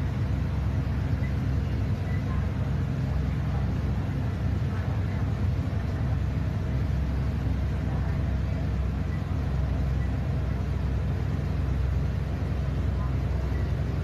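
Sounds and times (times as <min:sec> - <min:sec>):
bus engine low rumble: 0:00.0 - 0:14.0.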